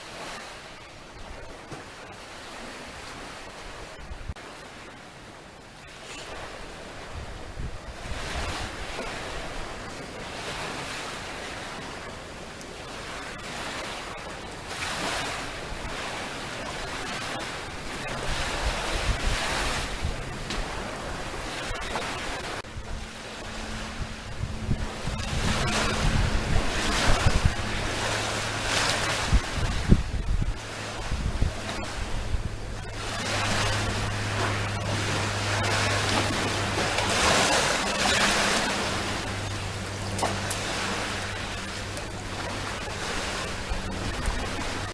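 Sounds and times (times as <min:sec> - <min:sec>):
waves breaking on shore: 0:00.0 - 0:44.9
steady low hum: 0:05.1 - 0:44.9
wind buffeting microphone: 0:06.3 - 0:44.9.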